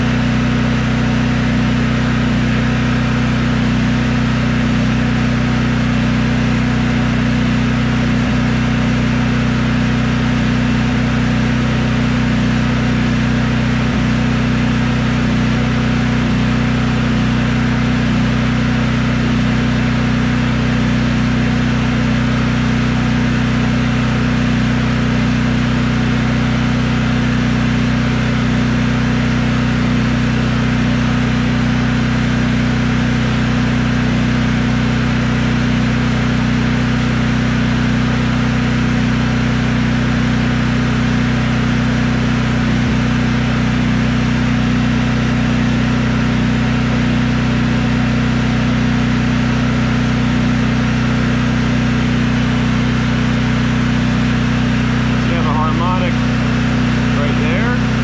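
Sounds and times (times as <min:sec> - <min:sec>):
generator engine droning: 0:00.0 - 0:58.0.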